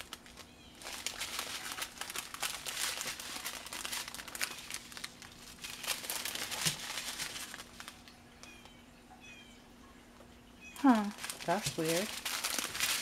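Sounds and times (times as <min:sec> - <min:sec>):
plastic packaging crinkling: 0:00.0 - 0:08.8, 0:10.8 - 0:13.0.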